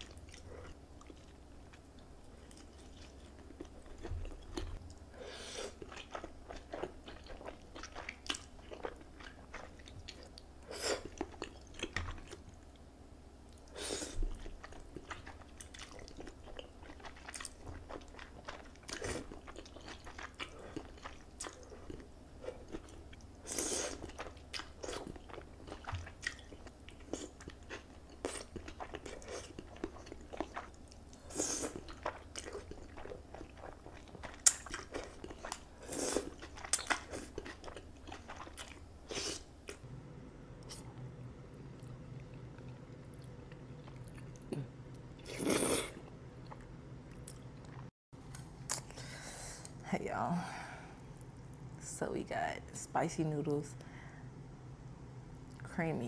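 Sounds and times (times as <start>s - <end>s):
person chewing food: 0.0s - 12.8s, 13.5s - 39.8s, 40.6s - 49.0s.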